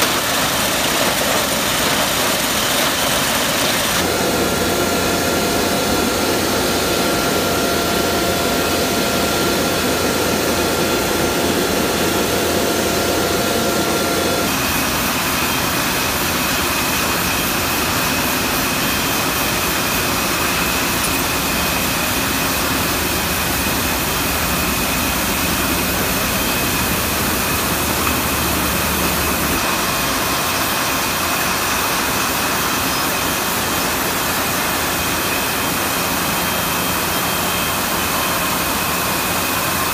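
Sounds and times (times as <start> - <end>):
steady machine whine: 0.0 - 39.9.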